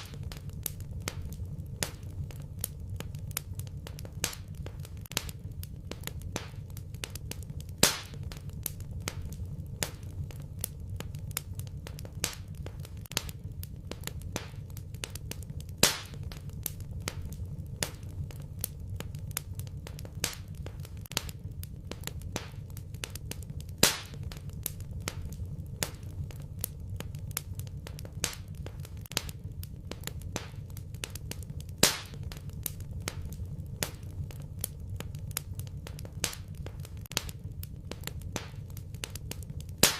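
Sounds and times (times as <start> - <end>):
sharp pop of burning wood: 0.0 - 39.9
wood fire crackling: 0.0 - 39.9.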